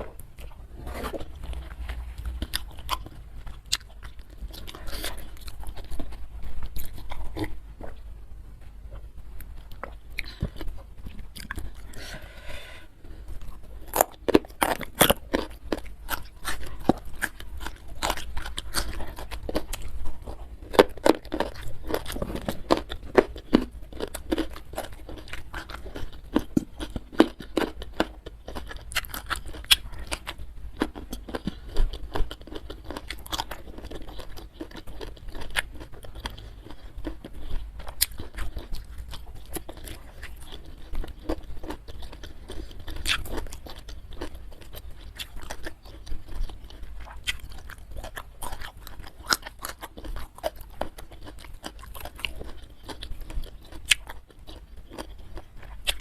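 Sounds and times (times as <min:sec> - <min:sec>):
chewing food with crunches: 0:00.0 - 0:56.0.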